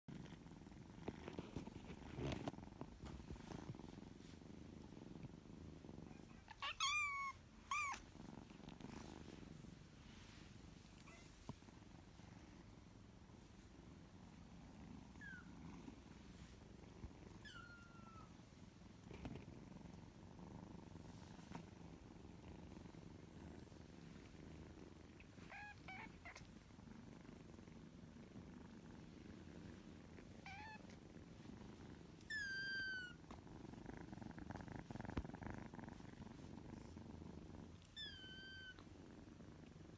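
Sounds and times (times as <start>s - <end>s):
kittens purring: 0.0s - 39.9s.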